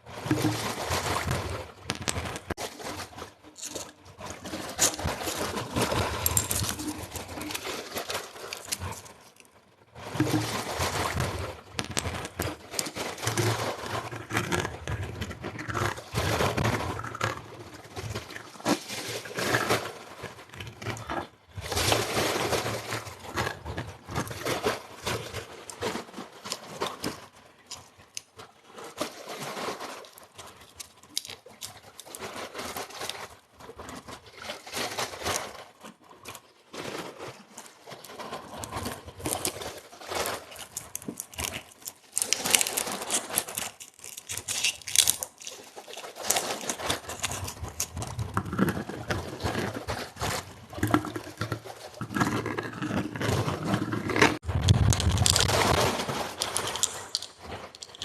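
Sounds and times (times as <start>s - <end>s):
crinkling and rustling: 0.0s - 58.0s.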